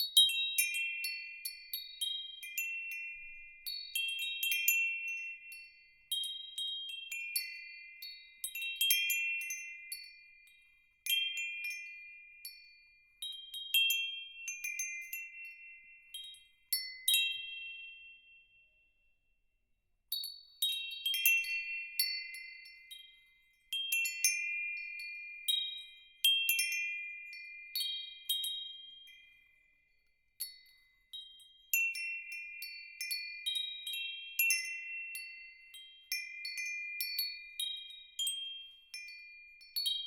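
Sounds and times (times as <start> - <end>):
metal wind chimes tinkling: 0.0 - 18.3, 20.1 - 40.0.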